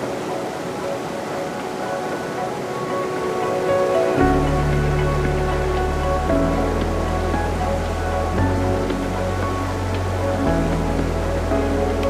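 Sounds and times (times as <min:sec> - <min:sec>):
background music with held tones: 0:00.0 - 0:12.0.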